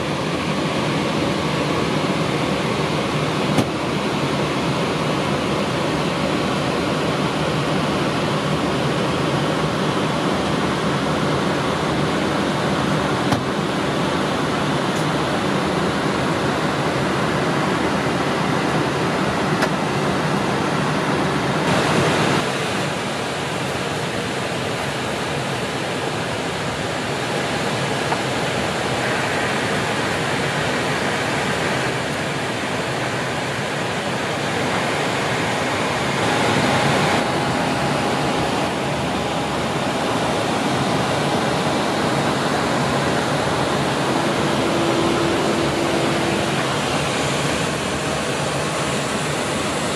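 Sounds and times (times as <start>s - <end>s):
rushing airflow hiss: 0.0s - 49.9s.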